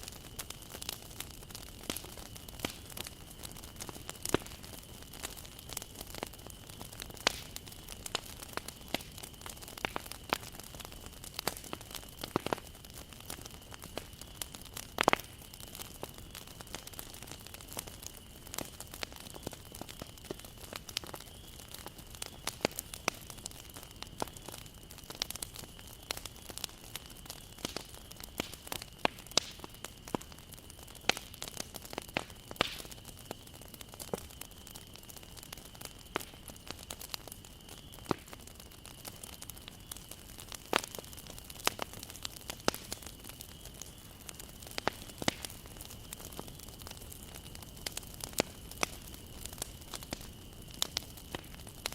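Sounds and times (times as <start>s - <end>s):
bonfire crackling: 0.0s - 51.9s
burning wood popping: 0.0s - 51.9s.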